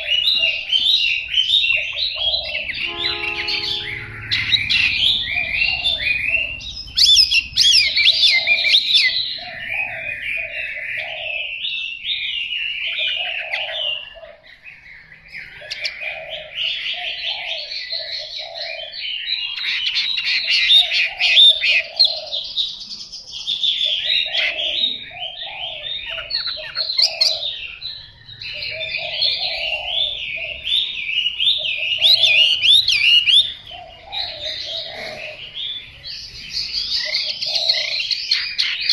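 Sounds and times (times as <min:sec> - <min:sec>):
bird singing rapid high phrases: 0:00.0 - 0:38.9.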